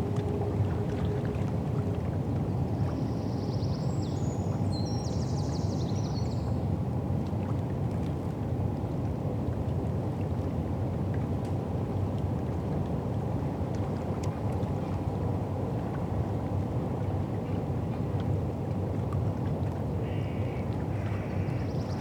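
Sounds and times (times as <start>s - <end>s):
low rumble of wind and water: 0.0s - 22.0s.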